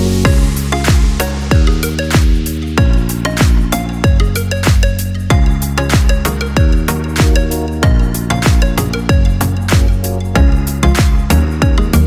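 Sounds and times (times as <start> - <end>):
deep kick drum beat: 0.0 - 12.0.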